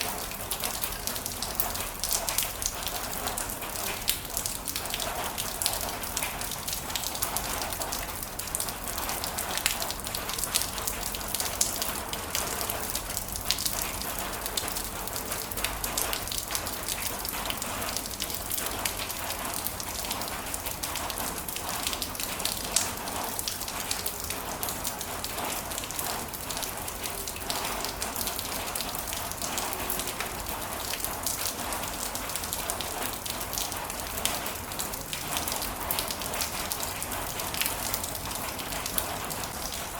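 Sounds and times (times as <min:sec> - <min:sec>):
heavy rain falling: 0:00.0 - 0:39.9
raindrops pattering and splashing: 0:00.0 - 0:39.9.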